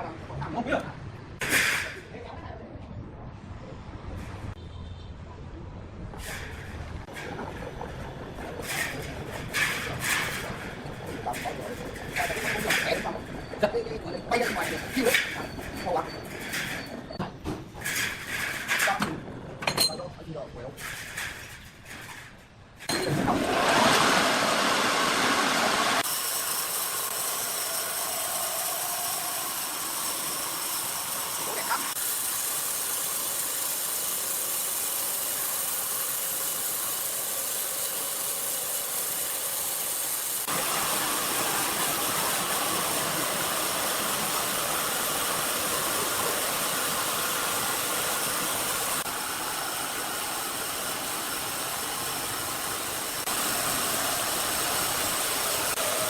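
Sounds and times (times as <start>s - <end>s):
sawmill machinery running: 6.2s - 19.6s, 23.1s - 56.0s.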